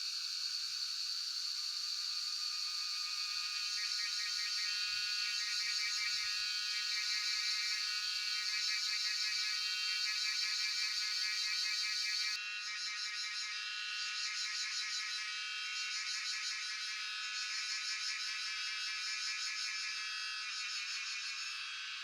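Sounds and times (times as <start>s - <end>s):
cicadas singing: 0.0s - 22.0s.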